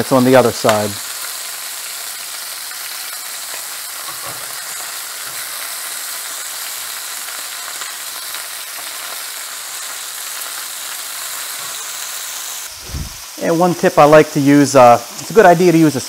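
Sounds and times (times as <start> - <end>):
chicken sizzling in pan: 0.0 - 16.0.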